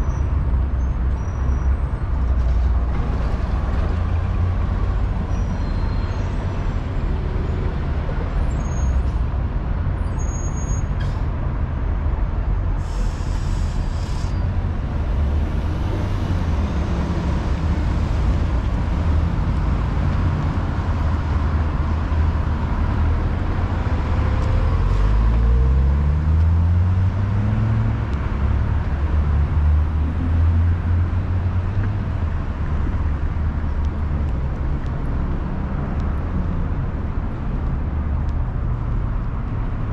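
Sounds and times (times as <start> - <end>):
street traffic rumbling: 0.0 - 39.9.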